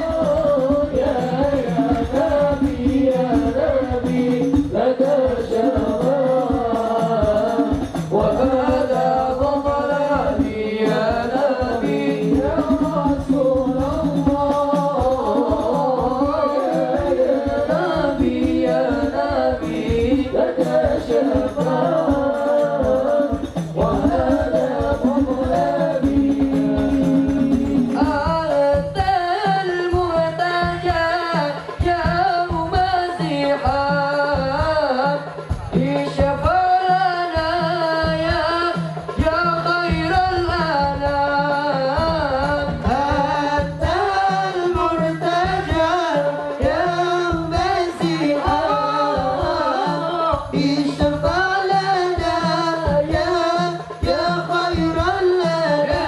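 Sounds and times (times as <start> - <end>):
frame drums beating: 0.0 - 56.0
man singing into a microphone: 0.0 - 56.0
second man singing: 0.0 - 56.0.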